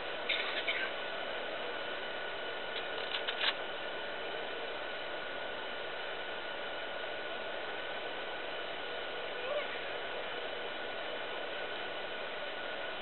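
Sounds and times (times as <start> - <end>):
faint steady whine: 0.0 - 13.0.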